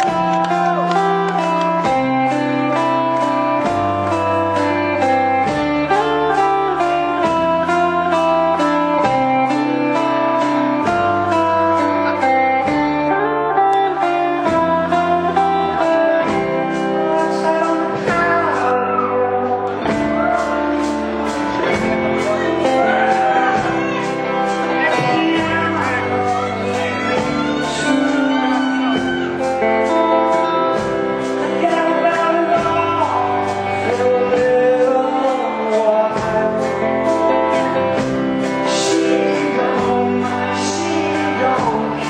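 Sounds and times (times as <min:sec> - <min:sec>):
steady drum beat: 0:00.0 - 0:13.0, 0:19.8 - 0:42.0
bass line: 0:00.0 - 0:42.0
distorted electric guitars: 0:00.0 - 0:42.0.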